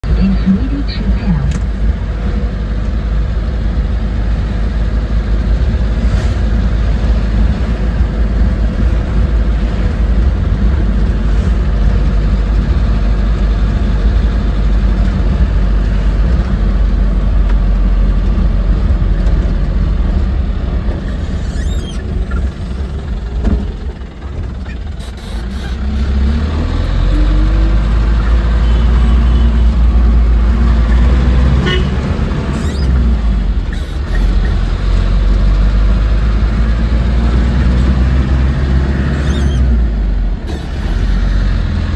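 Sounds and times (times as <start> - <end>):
vehicle engine and road rumble: 0.0 - 41.9.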